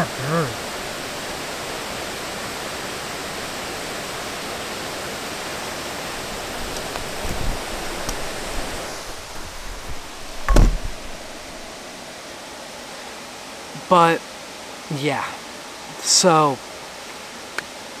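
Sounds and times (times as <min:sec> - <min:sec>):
stream flowing over stones: 0:00.0 - 0:18.0.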